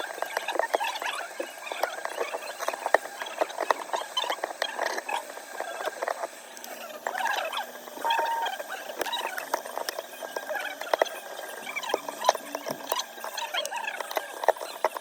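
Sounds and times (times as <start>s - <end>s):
small tools clicking and scraping: 0.0s - 15.0s.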